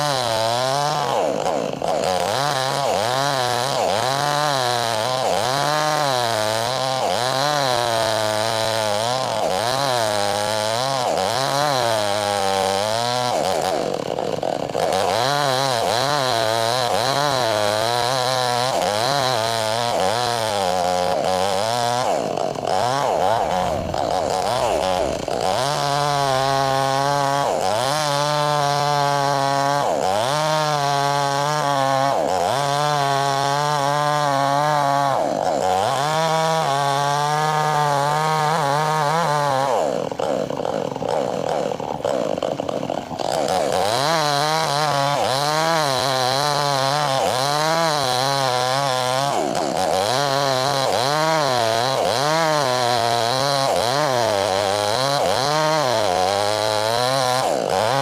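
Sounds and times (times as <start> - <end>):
chainsaw cutting a log: 0.0 - 58.0.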